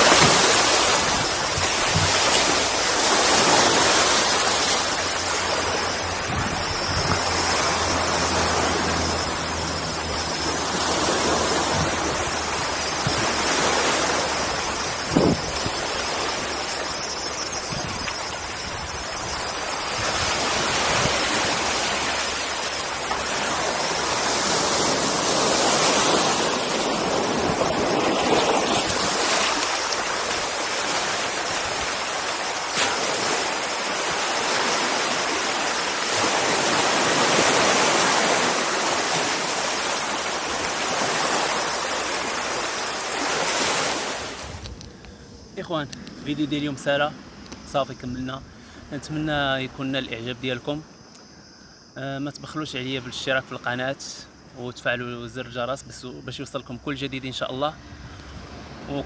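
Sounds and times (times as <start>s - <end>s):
waves lapping on rocky shore: 0.0s - 59.0s.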